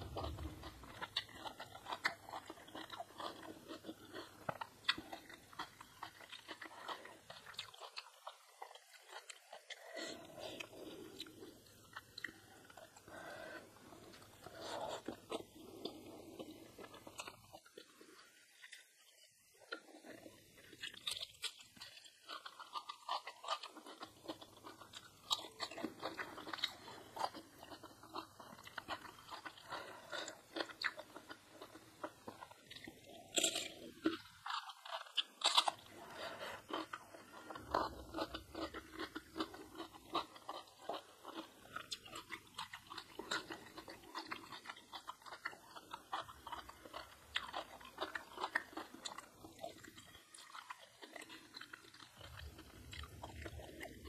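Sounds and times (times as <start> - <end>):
chewing crisp food: 0.0 - 54.0.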